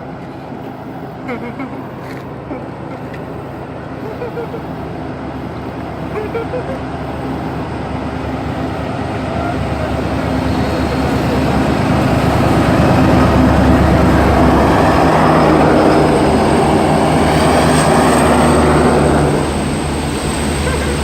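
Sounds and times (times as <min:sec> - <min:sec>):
train passing close: 0:00.0 - 0:21.0.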